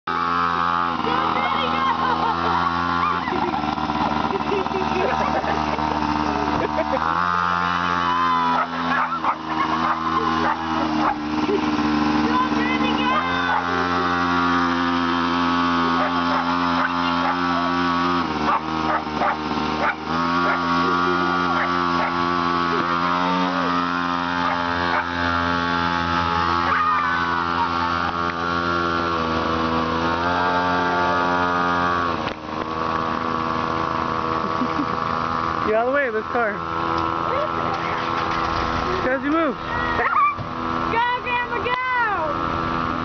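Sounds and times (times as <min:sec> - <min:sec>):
small motorbike engine running: 0:00.0 - 0:43.0.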